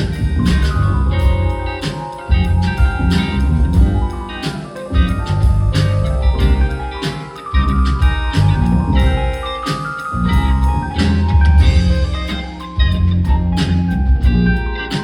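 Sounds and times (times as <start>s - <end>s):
heavy bass line: 0.0s - 14.9s
drum kit: 0.0s - 15.0s
guitar melody: 0.0s - 15.0s.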